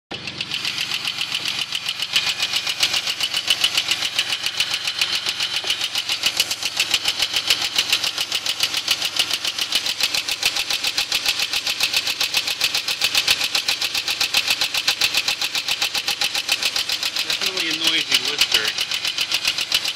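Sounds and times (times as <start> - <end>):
car engine idling: 0.1 - 19.9
sharp engine ticking: 0.1 - 19.9.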